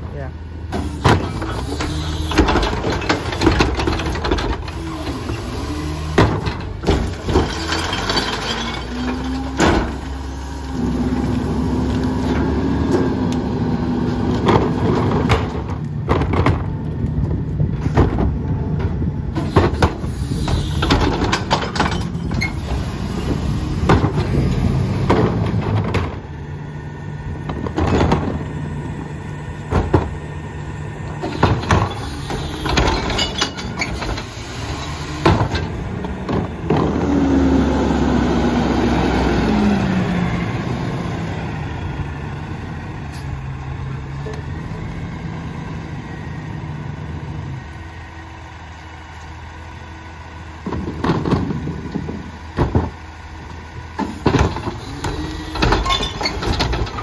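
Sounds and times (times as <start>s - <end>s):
garbage truck engine and hydraulics: 0.0s - 57.0s.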